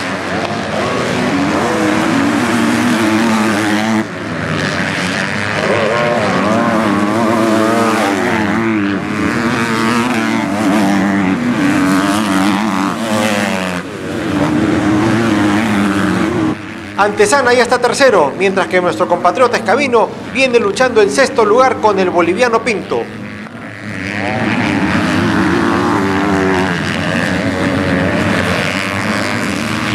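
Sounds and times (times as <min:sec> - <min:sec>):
motocross bikes revving: 0:00.0 - 0:29.9.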